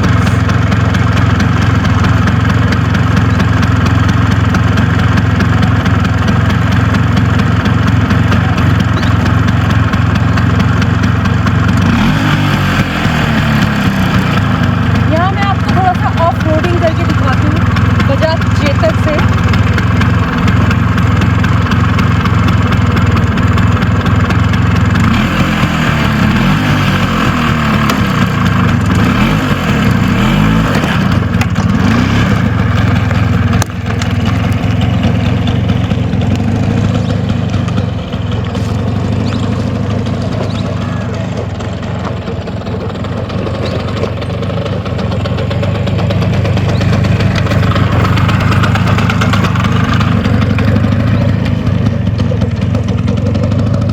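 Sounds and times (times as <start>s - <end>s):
scooter engine running: 0.0s - 53.9s.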